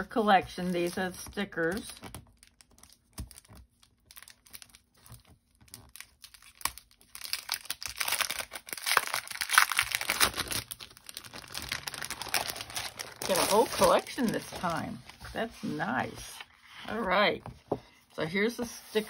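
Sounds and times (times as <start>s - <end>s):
plastic sleeve crinkling: 0.2s - 17.1s.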